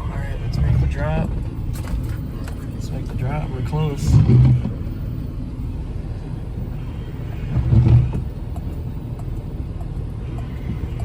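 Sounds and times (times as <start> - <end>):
off-road vehicle engine rumbling: 0.0 - 11.0.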